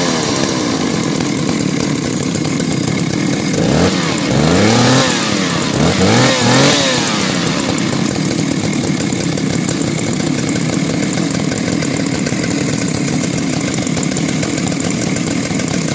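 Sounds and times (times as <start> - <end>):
two-stroke chainsaw revving and idling: 0.0 - 15.9.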